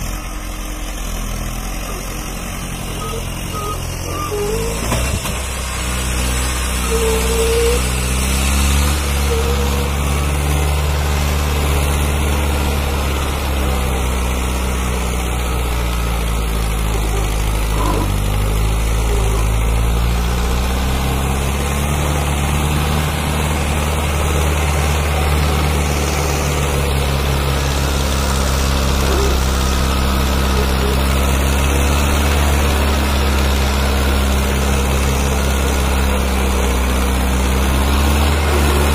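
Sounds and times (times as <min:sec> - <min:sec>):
tractor diesel engine straining: 0:00.0 - 0:38.9.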